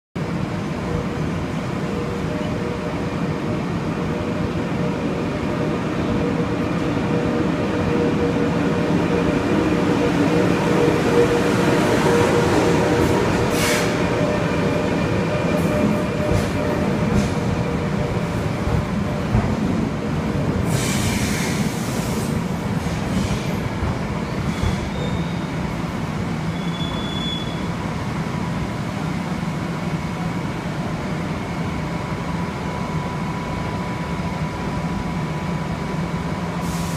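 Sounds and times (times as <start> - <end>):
train rumbling on rails: 0.2 - 36.9.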